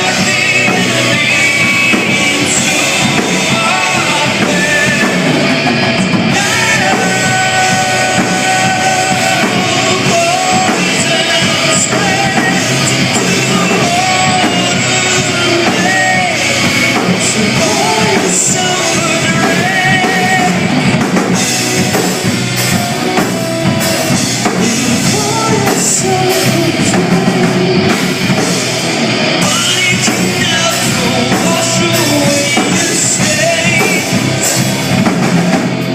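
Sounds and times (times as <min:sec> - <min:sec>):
person singing: 0:00.0 - 0:21.0, 0:21.8 - 0:28.4, 0:29.4 - 0:34.6
drum kit: 0:00.0 - 0:35.9
rock band playing live: 0:00.0 - 0:35.9.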